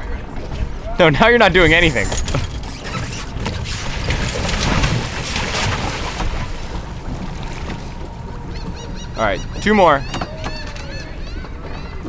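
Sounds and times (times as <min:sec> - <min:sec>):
sail rustling and flapping: 0:01.6 - 0:12.0.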